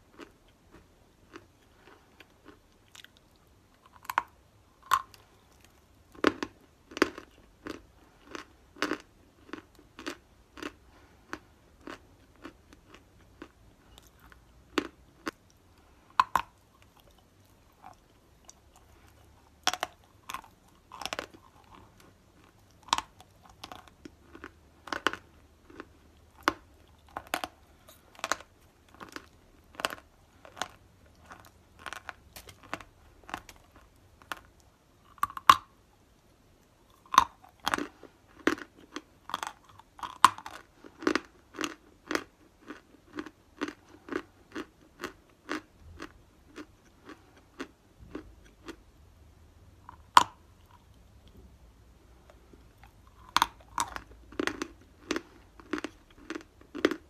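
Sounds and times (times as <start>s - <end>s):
clay being chewed with crunches: 0.0s - 48.9s, 52.2s - 57.0s.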